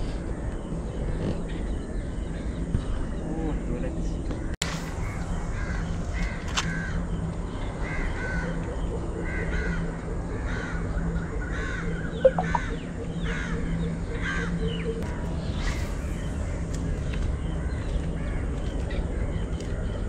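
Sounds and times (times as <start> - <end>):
birds calling: 0.0 - 20.0
steady low hum: 0.0 - 20.0.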